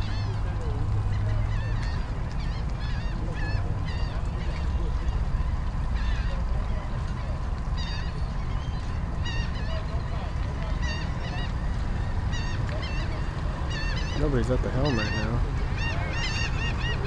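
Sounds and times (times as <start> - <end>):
waterbirds honking: 0.0 - 17.0.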